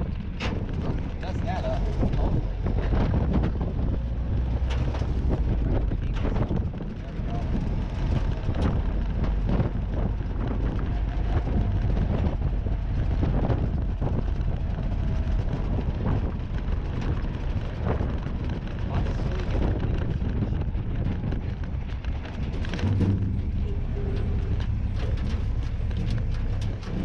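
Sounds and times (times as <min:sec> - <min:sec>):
jeep engine running: 0:00.0 - 0:27.0
wind buffeting microphone: 0:00.0 - 0:27.0.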